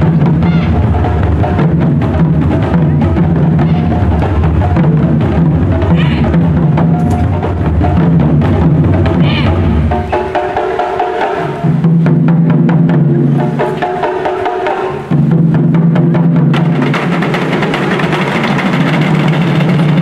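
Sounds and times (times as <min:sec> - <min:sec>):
taiko drums drumming: 0:00.0 - 0:20.0.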